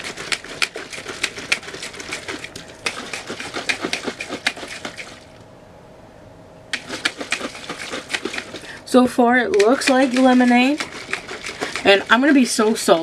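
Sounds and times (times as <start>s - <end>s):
shaker cup sloshing and knocking: 0.0s - 5.4s, 6.7s - 8.8s, 9.5s - 13.0s.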